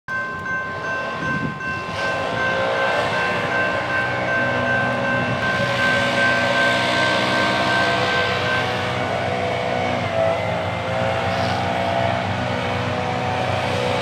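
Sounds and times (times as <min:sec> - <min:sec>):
steady high tone: 0:00.1 - 0:11.3
diesel locomotive engine rumble: 0:00.1 - 0:14.0.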